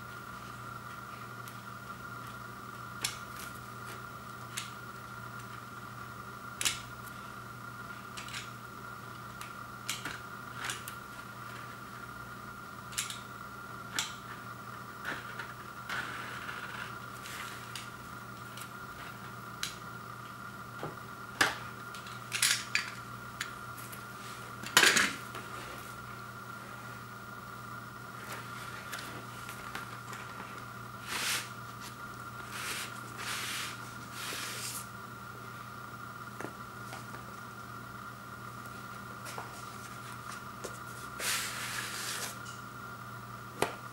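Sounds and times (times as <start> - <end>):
background hum: 0.0 - 43.9.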